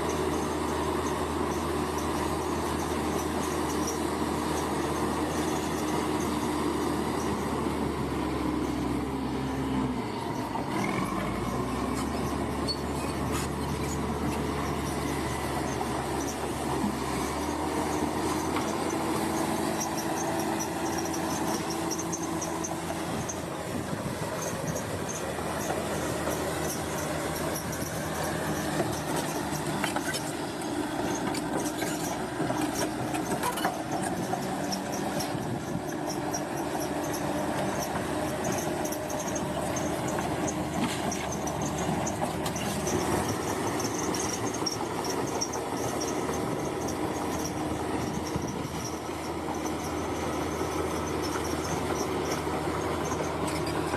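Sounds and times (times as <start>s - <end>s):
bulldozer diesel engine running: 0.0s - 53.9s
steel tracks squealing: 0.0s - 53.9s.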